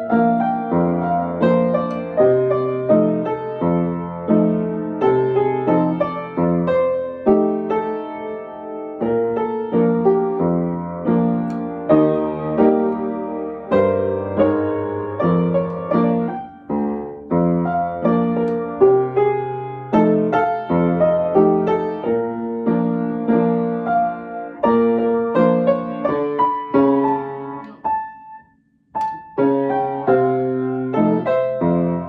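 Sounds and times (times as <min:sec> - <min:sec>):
piano chords and melody: 0:00.0 - 0:32.0.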